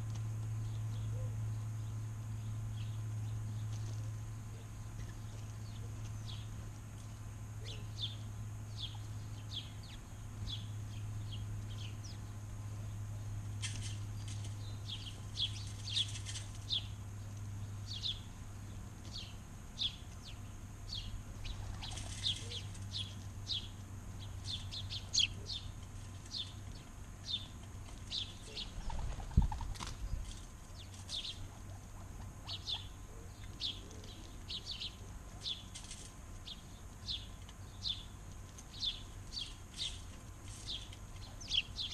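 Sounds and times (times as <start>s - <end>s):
birds chirping: 0.0s - 41.9s
steady low hum: 0.0s - 41.9s.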